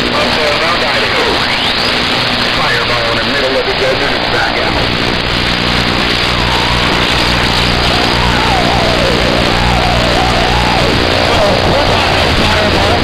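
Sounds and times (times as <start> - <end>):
distorted music over radio: 0.0 - 13.0
radio static hiss and hum: 0.0 - 13.0.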